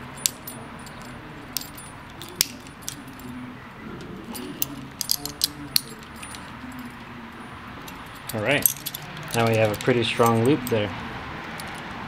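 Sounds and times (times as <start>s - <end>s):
metal hardware clinking: 0.0s - 12.0s.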